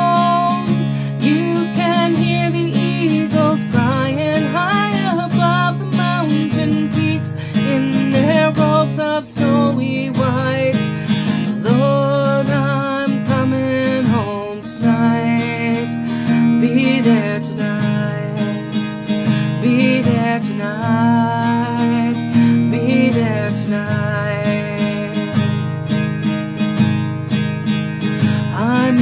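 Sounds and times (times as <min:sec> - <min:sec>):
woman singing: 0:00.0 - 0:25.8, 0:28.0 - 0:29.0
acoustic guitar: 0:00.0 - 0:29.0.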